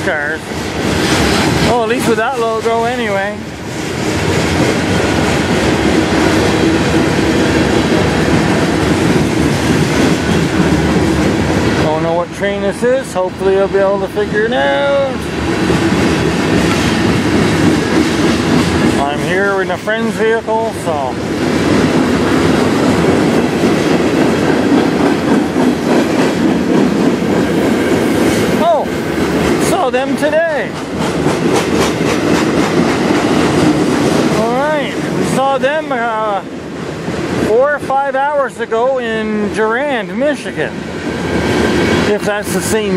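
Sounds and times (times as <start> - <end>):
freight train wheels rumbling on rail: 0.0 - 42.9.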